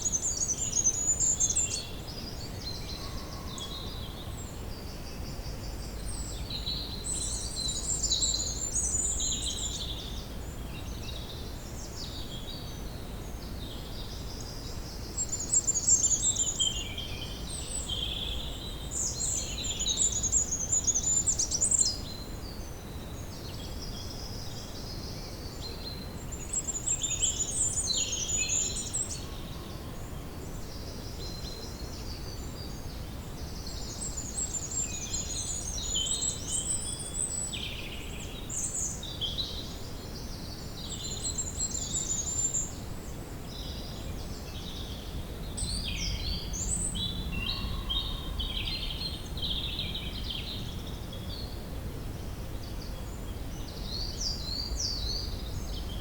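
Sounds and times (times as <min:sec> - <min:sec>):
low background noise: 0:00.0 - 0:56.0
songbirds chirping and trilling: 0:00.0 - 0:56.0.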